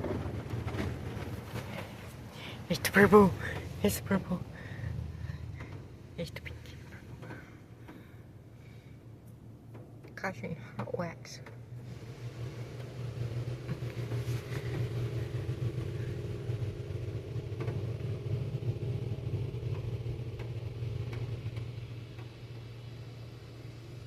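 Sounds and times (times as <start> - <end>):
car wash mechanical rumble: 0.0 - 24.0.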